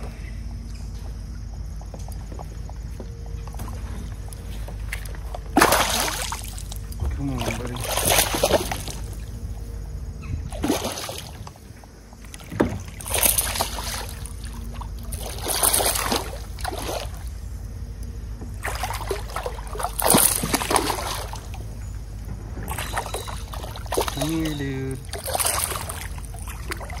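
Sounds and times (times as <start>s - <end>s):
fish splashing in water: 4.5s - 17.9s, 18.6s - 27.0s.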